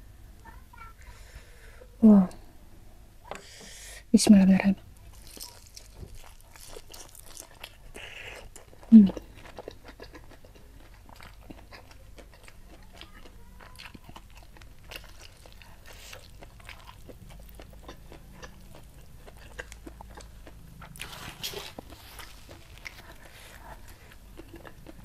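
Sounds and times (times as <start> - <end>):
close-miked chewing crunches: 5.0 - 25.0.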